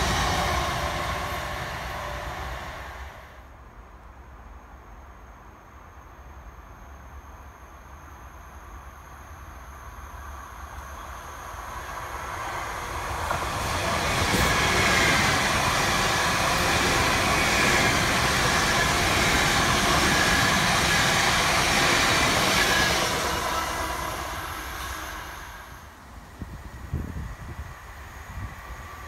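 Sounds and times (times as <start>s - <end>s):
train passing: 0.0s - 3.7s, 8.7s - 29.0s.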